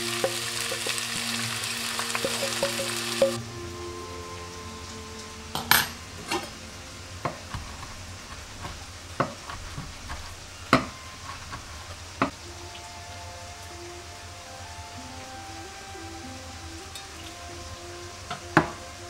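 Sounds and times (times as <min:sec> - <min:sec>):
low sizzle: 0:00.0 - 0:19.0.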